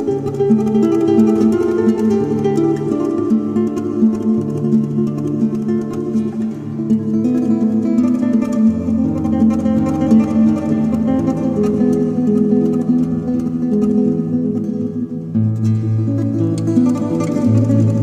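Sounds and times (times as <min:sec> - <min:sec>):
flamenco guitar playing: 0:00.0 - 0:18.0.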